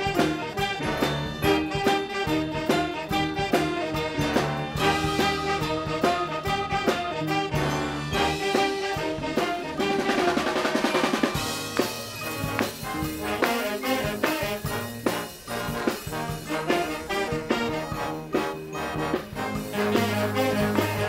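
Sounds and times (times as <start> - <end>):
brass band playing: 0.0 - 21.0
snare drum roll: 0.0 - 21.0.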